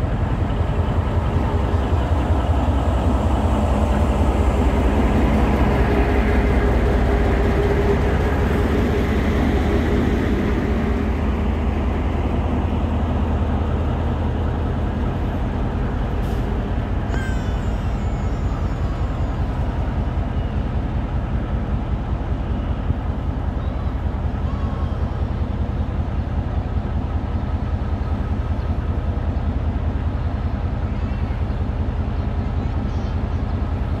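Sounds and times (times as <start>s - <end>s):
locomotive engine droning: 0.0s - 34.0s.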